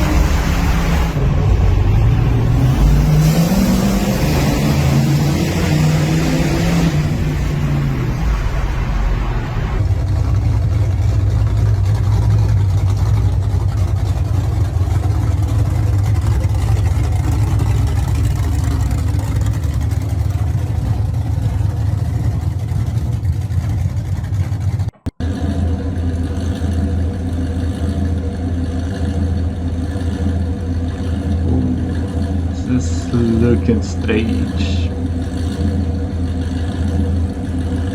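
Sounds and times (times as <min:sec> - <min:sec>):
car engine rumbling: 0:00.0 - 0:37.9.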